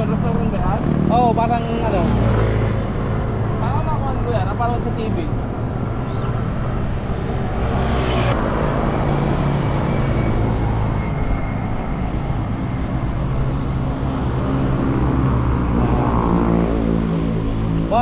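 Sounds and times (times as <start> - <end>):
bicycle road noise: 0.0 - 18.0.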